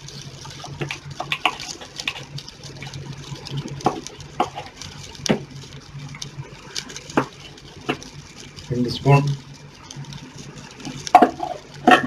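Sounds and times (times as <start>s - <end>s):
broth bubbling in a pot: 0.0s - 12.0s
pops and crackles: 0.0s - 12.0s
steady low hum: 0.0s - 12.0s.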